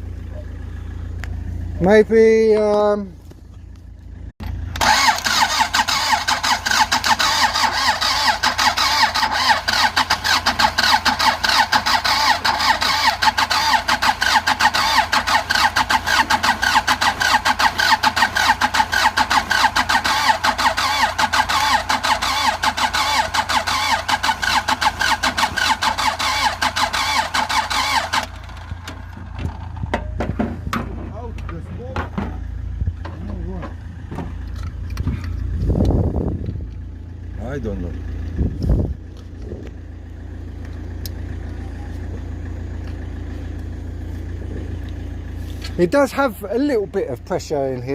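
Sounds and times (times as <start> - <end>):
diesel engine cranking: 0.0 - 47.9.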